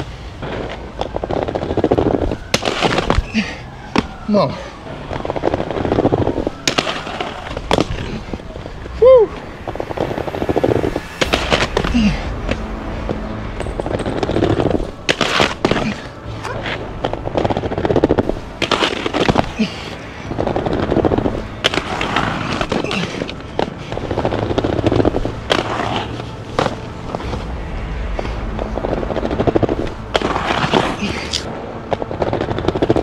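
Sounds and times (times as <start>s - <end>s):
skates clacking and grinding ledge: 0.0s - 4.1s, 5.1s - 27.4s, 29.3s - 33.0s
skates rolling on concrete: 0.0s - 33.0s.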